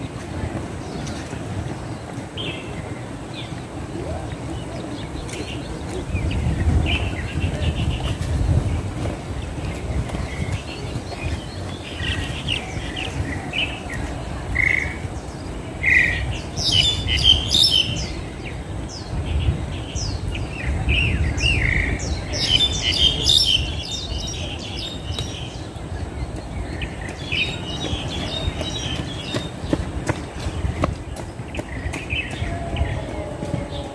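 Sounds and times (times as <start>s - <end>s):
birds chirping: 0.0s - 33.9s
steady low rumble: 0.0s - 33.9s.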